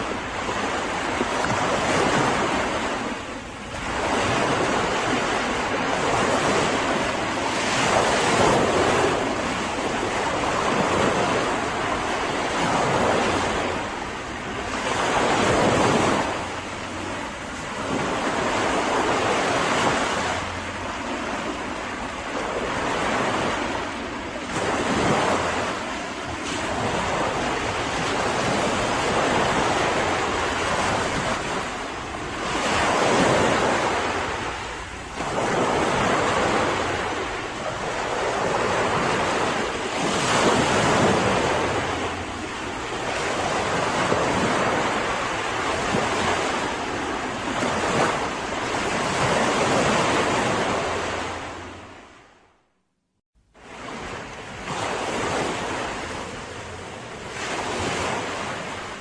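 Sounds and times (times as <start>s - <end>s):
sea waves washing onto beach: 0.0s - 52.1s, 53.6s - 59.0s.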